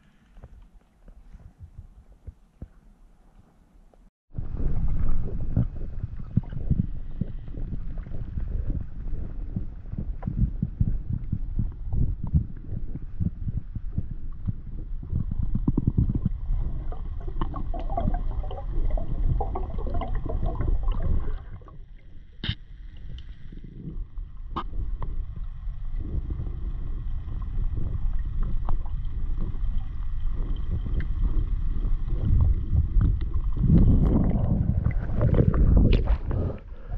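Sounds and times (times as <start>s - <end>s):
water sloshing and gurgling: 4.3s - 36.9s.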